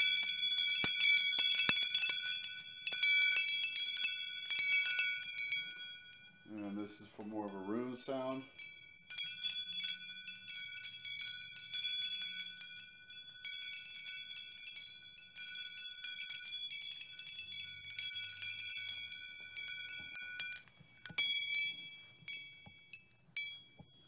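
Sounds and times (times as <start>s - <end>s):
metal wind chimes ringing: 0.0s - 24.0s.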